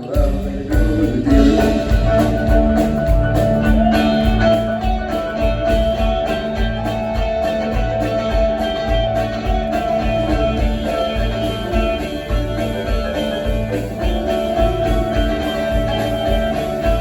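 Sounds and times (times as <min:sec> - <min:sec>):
guitar: 0:00.0 - 0:17.0
pulsing bass line: 0:00.0 - 0:17.0
rock band playing instrumental: 0:00.0 - 0:17.0.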